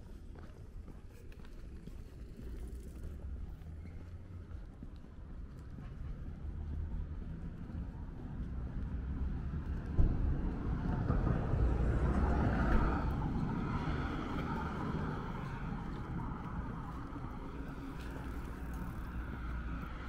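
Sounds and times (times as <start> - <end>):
low traffic rumble: 0.0 - 20.0
vehicle passing: 2.0 - 20.0.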